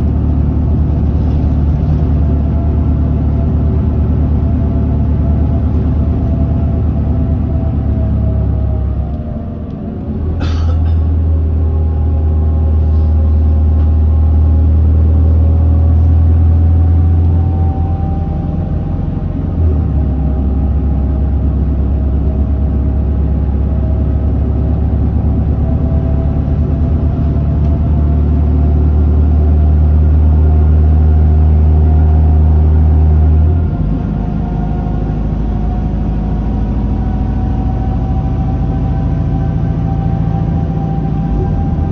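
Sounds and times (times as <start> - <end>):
bus engine droning and whining: 0.0 - 41.9.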